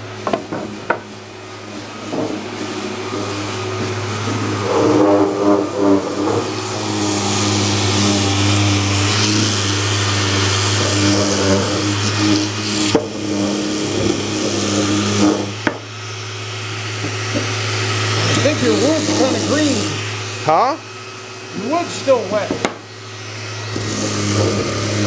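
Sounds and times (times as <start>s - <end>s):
abrasive hissing on wood: 0.0s - 25.0s
sander motor hum: 0.0s - 25.0s.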